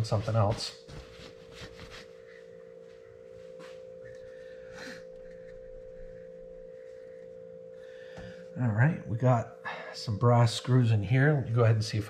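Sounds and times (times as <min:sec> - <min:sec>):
steady humming tone: 0:00.0 - 0:12.0.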